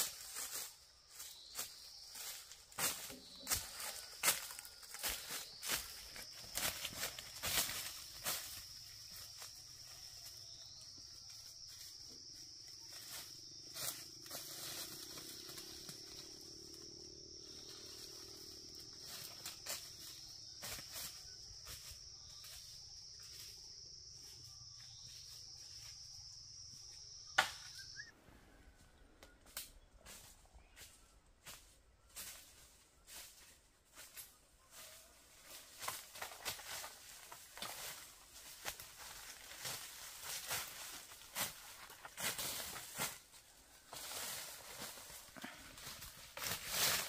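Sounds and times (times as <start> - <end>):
insects buzzing: 0.0 - 47.0.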